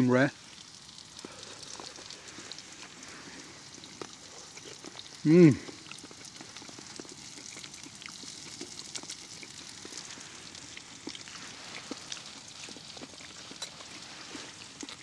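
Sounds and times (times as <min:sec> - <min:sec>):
small pops and crackles: 0:00.0 - 0:15.0
steak sizzling in a frying pan: 0:00.0 - 0:15.0.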